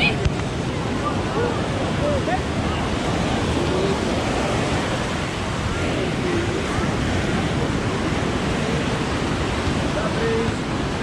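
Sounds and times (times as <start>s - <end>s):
faint voices: 0.0s - 11.0s
ocean surf on beach: 0.0s - 11.0s.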